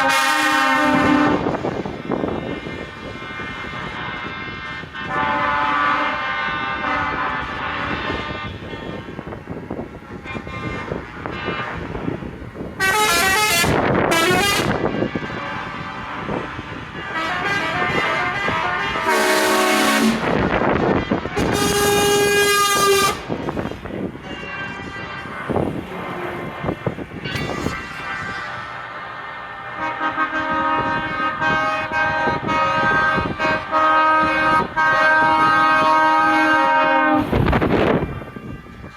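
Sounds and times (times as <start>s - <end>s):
truck air horns blowing: 0.0s - 38.9s
truck engines running: 0.0s - 38.9s.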